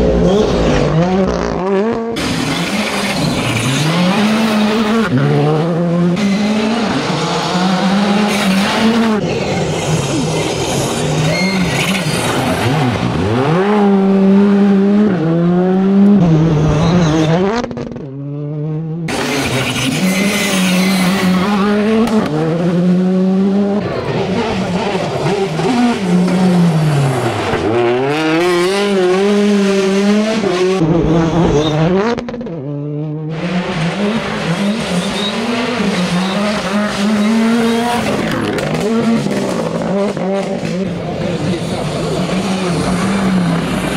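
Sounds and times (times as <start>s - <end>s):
rally car engines revving: 0.0s - 43.9s.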